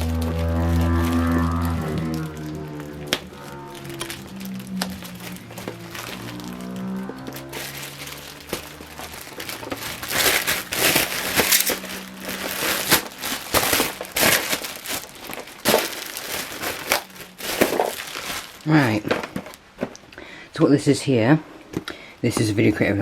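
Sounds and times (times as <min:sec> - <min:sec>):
packaging crinkling and rustling: 0:00.0 - 0:20.1.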